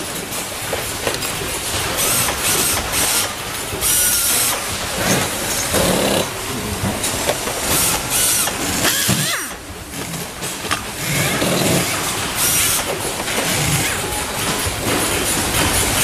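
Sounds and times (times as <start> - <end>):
factory machinery noise: 0.0 - 16.0.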